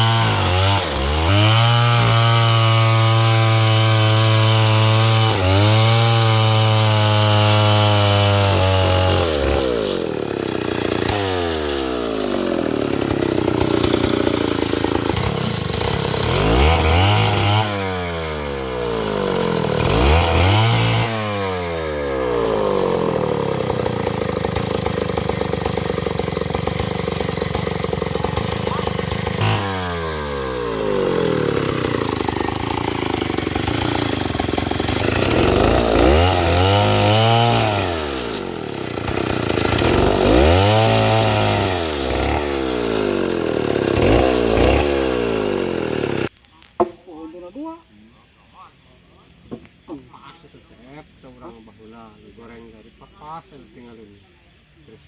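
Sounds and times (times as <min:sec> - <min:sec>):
chainsaw engine revving: 0:00.0 - 0:46.3.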